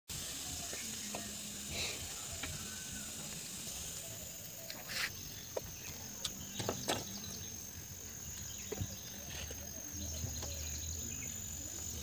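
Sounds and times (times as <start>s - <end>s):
high-pitched insect drone: 0.1s - 12.0s.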